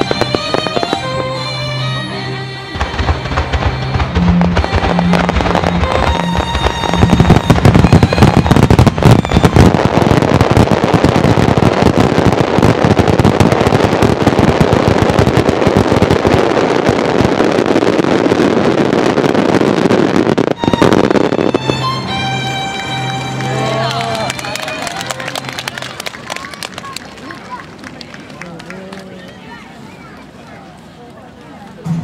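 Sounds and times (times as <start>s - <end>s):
firework bangs: 0.0s - 1.7s, 2.7s - 26.7s
fireworks crackling: 0.0s - 32.0s.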